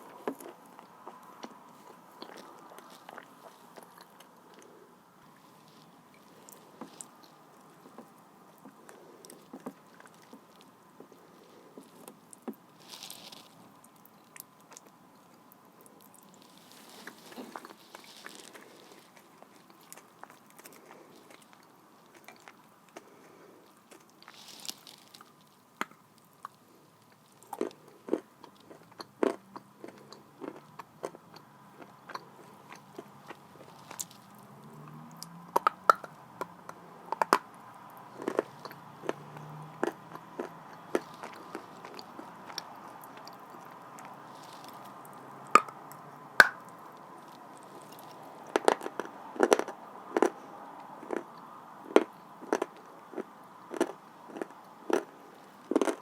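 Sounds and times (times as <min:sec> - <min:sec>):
crunching and chewing clay: 0:00.0 - 0:56.0.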